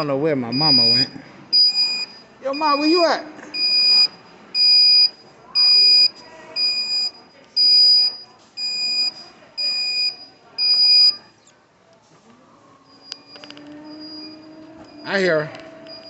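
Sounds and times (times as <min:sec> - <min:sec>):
electronic alarm beeping: 0:00.0 - 0:11.4, 0:12.9 - 0:16.0.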